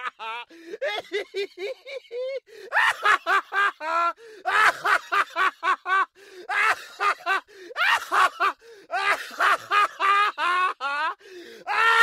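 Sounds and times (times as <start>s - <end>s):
man laughing heartily: 0.0s - 11.9s.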